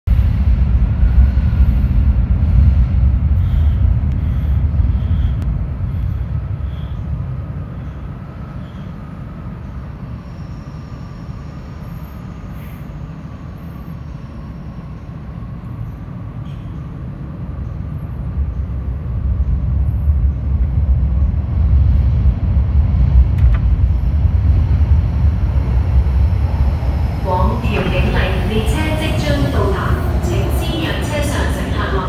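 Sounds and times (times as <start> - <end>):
metro train rumble: 0.0 - 32.0
faint whine: 0.1 - 32.0.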